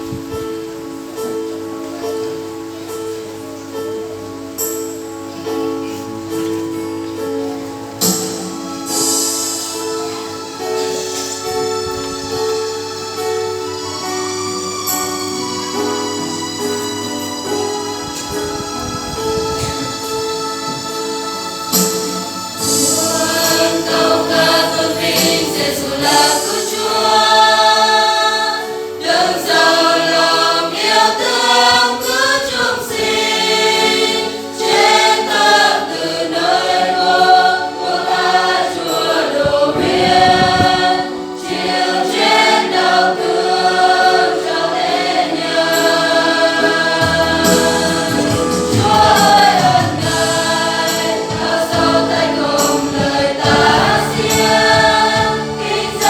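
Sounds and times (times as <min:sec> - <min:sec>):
choir singing a hymn: 0:00.0 - 0:56.0
backing music: 0:04.3 - 0:56.0.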